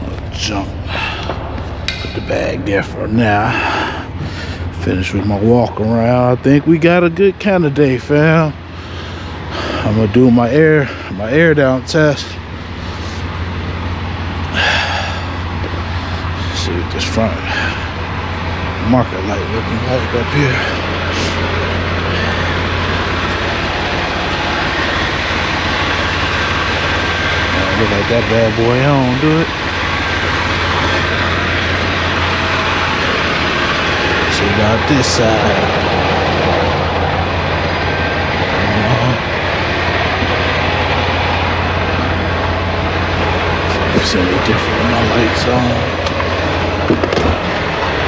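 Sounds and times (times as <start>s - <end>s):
diesel truck engine idling: 0.0s - 48.0s
even rushing noise: 0.0s - 48.0s.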